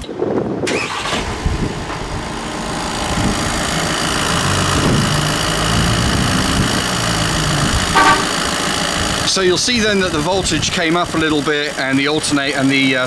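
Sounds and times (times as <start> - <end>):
diesel engine idling: 0.8 - 13.0.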